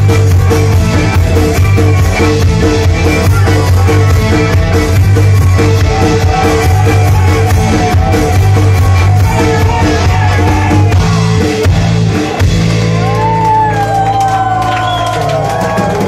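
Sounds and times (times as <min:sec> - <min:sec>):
live folk-rock band: 0:00.0 - 0:16.0.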